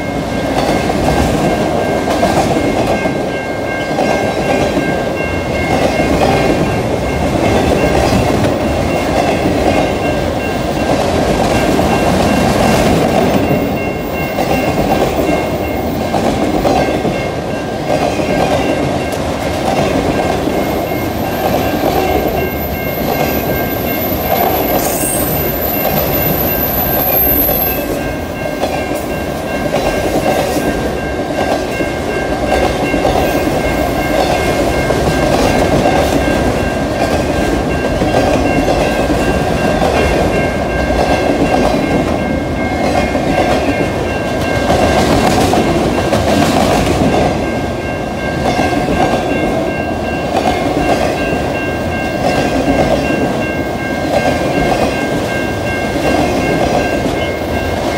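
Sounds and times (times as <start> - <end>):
freight train wheels rumbling on rails: 0.0 - 57.9.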